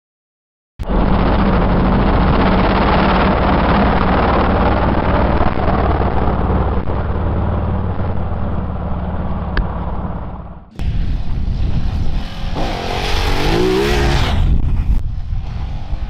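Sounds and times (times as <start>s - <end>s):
motorcycle engine running: 0.8s - 15.6s.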